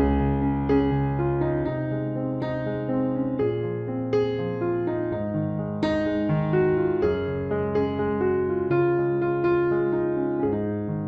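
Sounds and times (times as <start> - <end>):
electric piano music: 0.0 - 11.0.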